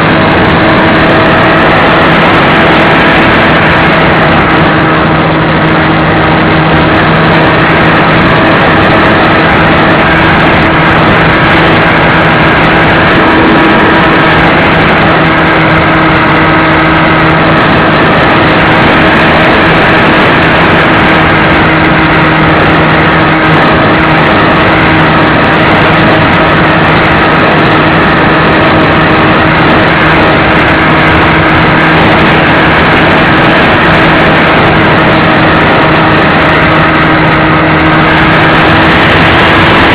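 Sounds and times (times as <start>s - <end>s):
model airplane motor running: 0.0s - 39.9s
wind rush: 0.0s - 39.9s.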